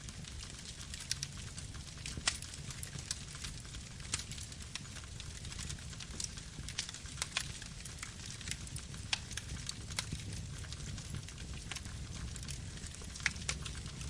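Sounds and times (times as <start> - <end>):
low rumble of flames: 0.0 - 14.0
wood crackling and popping: 0.0 - 14.0.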